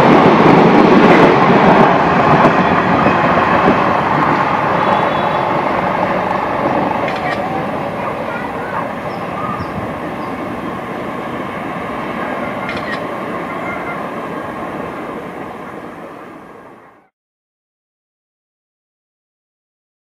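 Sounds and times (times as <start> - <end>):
train wheels rolling on track: 0.0 - 17.1.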